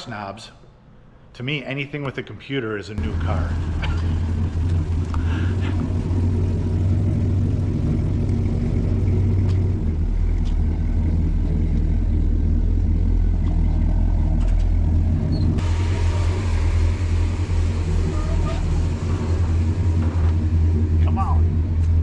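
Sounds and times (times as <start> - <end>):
truck engine rumbling: 3.0 - 22.0.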